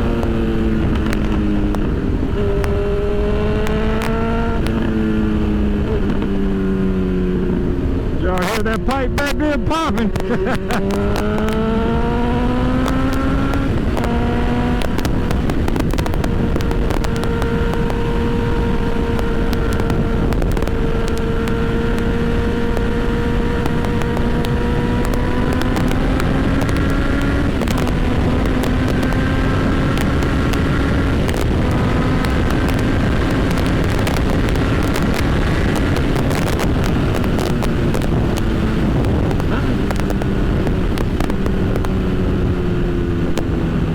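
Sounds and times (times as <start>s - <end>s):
motorcycle engine revving: 0.0s - 43.9s
wind on microphone: 0.0s - 43.9s.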